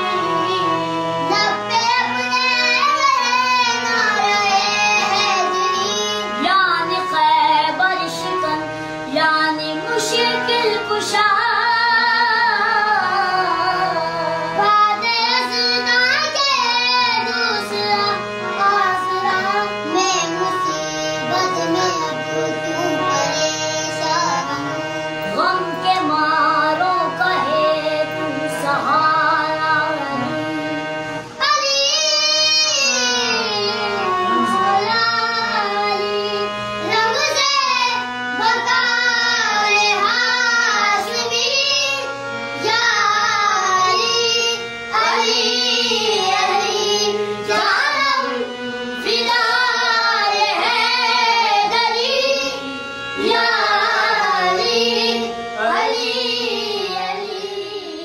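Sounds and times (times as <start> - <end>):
child's quavering lead voice: 0.0 - 58.0
children singing devotional song: 0.0 - 58.0
harmonium holding notes: 0.0 - 58.0.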